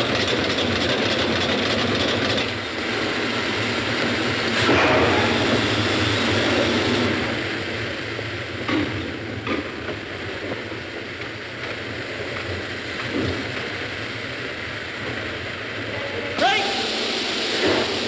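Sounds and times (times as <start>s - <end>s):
steam rushing hiss: 1.2s - 18.0s.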